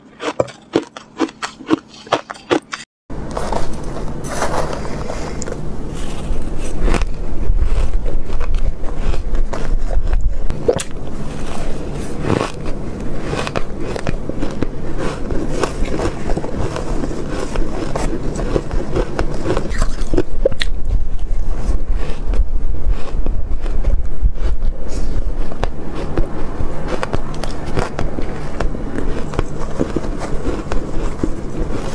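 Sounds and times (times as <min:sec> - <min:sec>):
chewing crunchy shaved ice: 0:00.0 - 0:02.8, 0:03.4 - 0:31.9.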